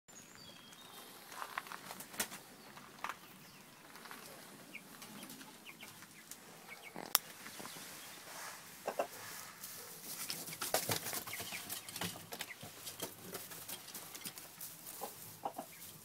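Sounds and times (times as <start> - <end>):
chicks peeping: 0.4 - 16.0.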